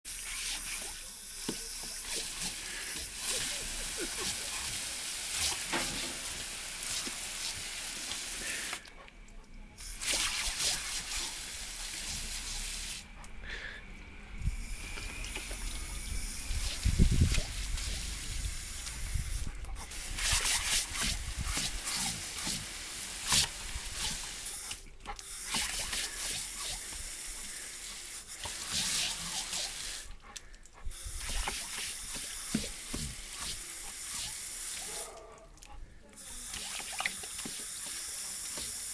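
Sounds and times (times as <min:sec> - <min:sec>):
dog drinking water: 0:00.2 - 0:13.5, 0:14.5 - 0:38.9.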